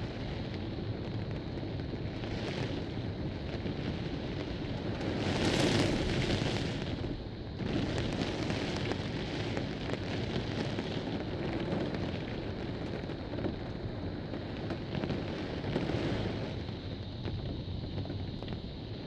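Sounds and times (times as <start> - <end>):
heavy rain pouring: 0.0 - 19.0
low rumble of wind: 0.0 - 19.0.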